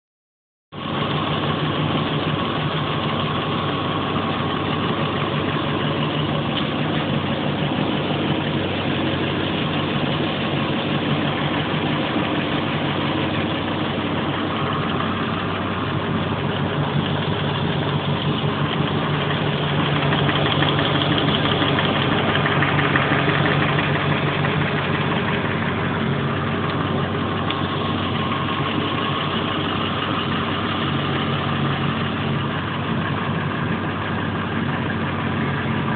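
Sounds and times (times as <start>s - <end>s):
engine idling: 0.7s - 35.9s.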